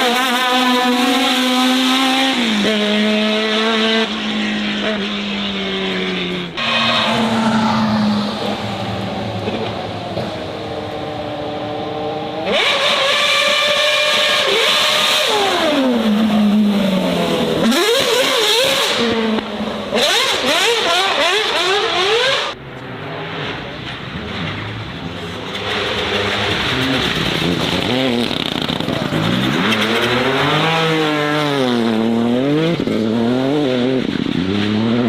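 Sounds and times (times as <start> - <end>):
racing car engine at full throttle: 0.0 - 35.0.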